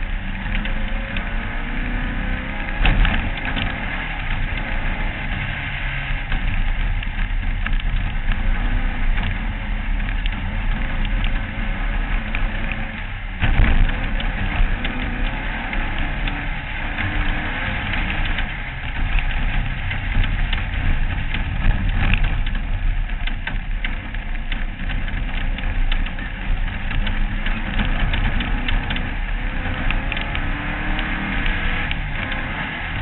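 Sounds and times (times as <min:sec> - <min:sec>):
race car engine running: 0:00.0 - 0:33.0
sharp ticks and rattles: 0:00.0 - 0:33.0.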